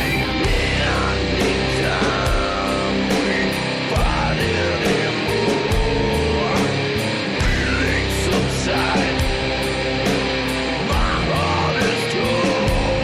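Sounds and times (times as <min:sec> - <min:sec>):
distorted electric guitars: 0:00.0 - 0:13.0
drums: 0:00.0 - 0:13.0
heavy rock music: 0:00.0 - 0:13.0.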